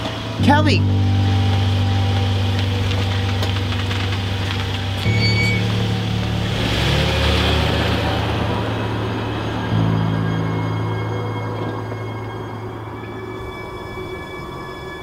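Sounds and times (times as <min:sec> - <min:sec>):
car engine running: 0:00.0 - 0:14.1.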